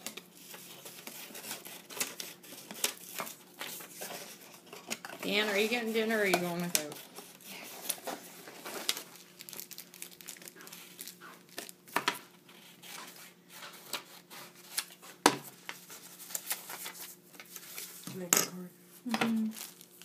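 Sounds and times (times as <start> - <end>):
plastic packaging crinkling: 0.0 - 18.0, 19.2 - 20.0.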